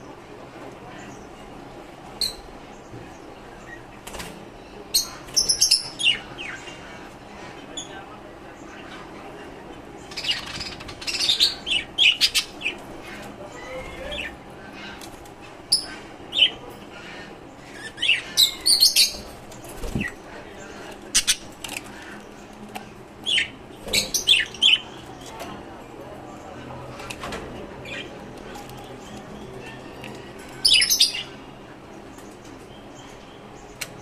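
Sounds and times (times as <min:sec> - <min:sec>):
caged birds chirping: 0:00.0 - 0:34.0.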